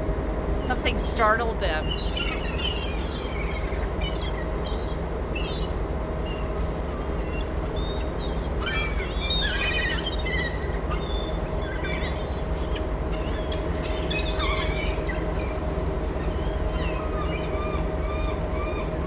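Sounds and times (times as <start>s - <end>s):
steady low rumble: 0.0s - 19.0s
gulls calling: 0.6s - 19.0s.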